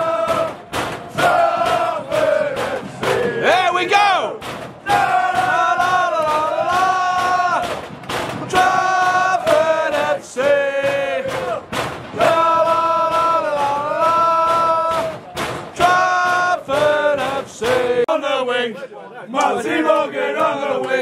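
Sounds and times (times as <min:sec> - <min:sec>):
sharp drum beats: 0:00.0 - 0:18.2
football fans chanting: 0:00.0 - 0:21.0.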